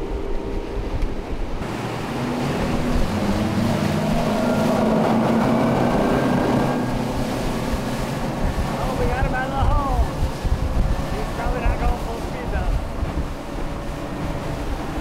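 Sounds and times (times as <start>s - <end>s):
outboard motors drone: 0.0s - 15.0s
rushing water and wake: 0.0s - 15.0s.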